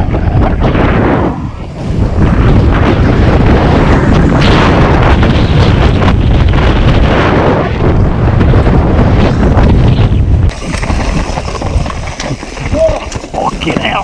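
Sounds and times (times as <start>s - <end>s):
bike tyres running on dirt: 0.0s - 14.0s
wind rushing over microphone: 0.0s - 14.0s.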